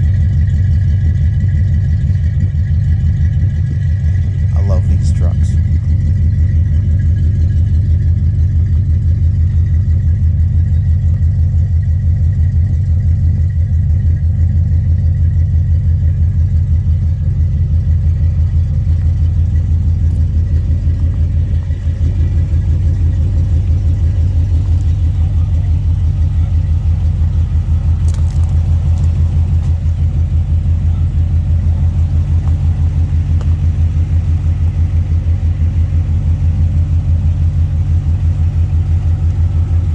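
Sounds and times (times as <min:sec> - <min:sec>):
pickup engine idling: 0:00.0 - 0:39.9.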